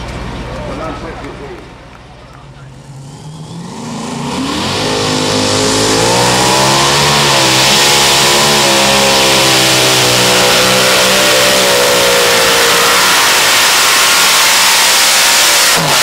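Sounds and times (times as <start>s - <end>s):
tractor engines at full throttle: 0.0s - 16.0s.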